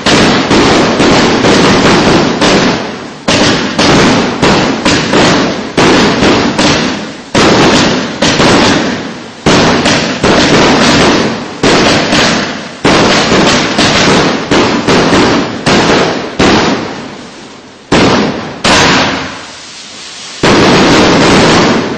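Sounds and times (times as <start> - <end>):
firework bangs: 0.0 - 21.9.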